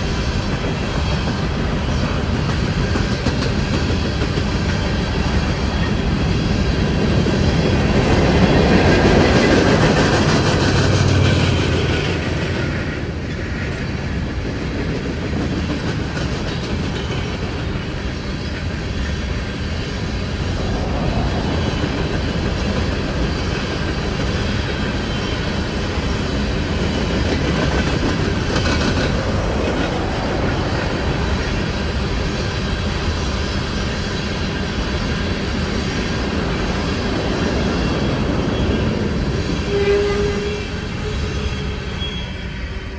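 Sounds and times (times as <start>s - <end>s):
freight train wheels on rails: 0.0s - 42.9s.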